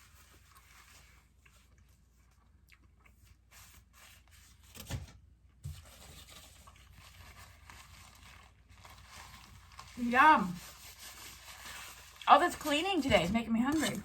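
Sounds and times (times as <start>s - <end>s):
soft tearing and rubbing of food: 0.0s - 4.8s, 5.7s - 14.0s.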